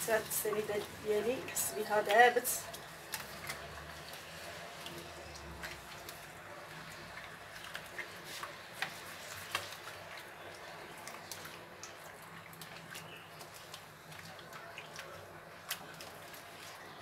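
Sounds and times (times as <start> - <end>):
eggs beaten by hand in bowl: 0.0 - 17.0.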